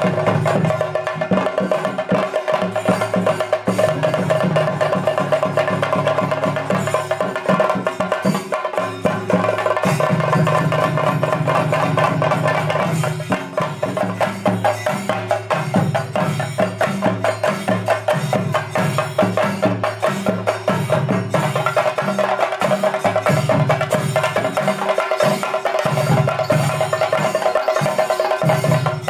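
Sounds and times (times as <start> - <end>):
drums beaten rapidly with sticks: 0.0 - 29.0.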